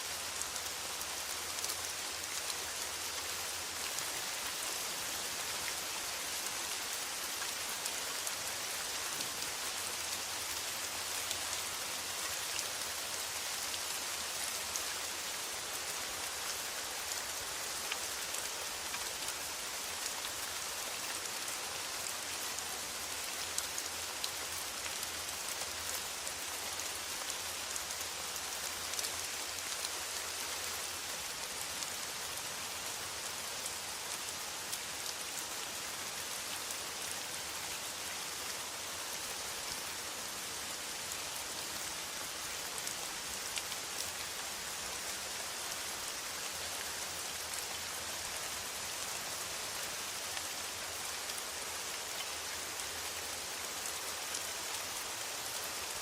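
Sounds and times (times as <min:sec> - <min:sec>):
rain drumming on a metal roof: 0:00.0 - 0:56.0.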